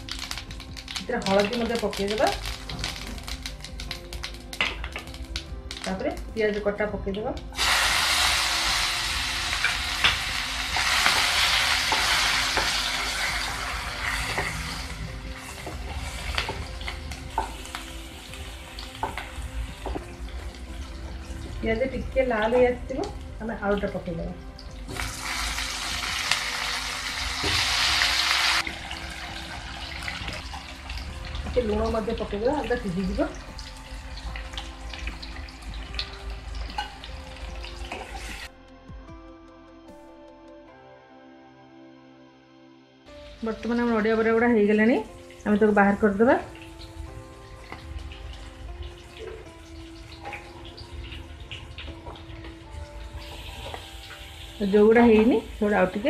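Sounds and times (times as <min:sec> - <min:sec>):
onions sizzling in hot oil: 0:00.0 - 0:06.0, 0:07.5 - 0:24.2, 0:24.8 - 0:38.5, 0:43.3 - 0:56.0.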